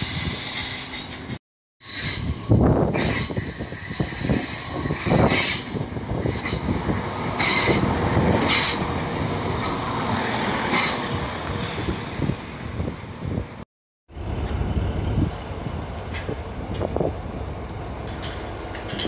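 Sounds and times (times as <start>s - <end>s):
diesel train rumbling past: 2.0s - 19.0s.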